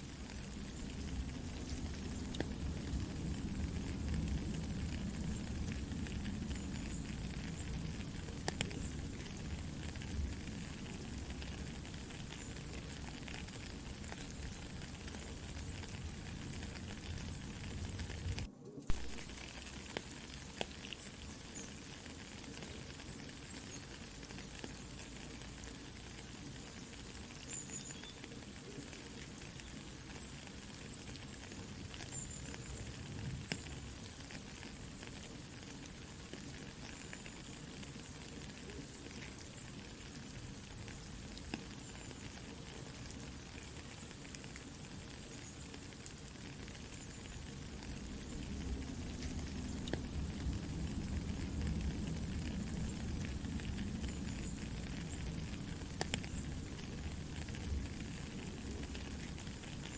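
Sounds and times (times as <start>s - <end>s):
campfire crackling and popping: 0.0s - 59.9s
soft rain falling: 0.0s - 59.9s.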